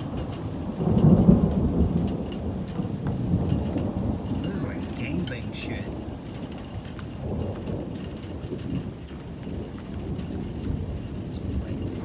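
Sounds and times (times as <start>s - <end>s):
low rumble of wind gusts: 0.0s - 12.0s
rain patter: 0.0s - 12.0s.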